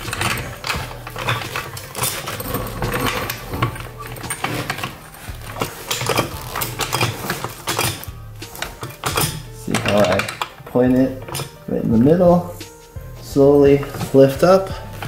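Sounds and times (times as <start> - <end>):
floor jack pumping: 0.0 - 15.0
metal clicks and clanks: 0.0 - 15.0.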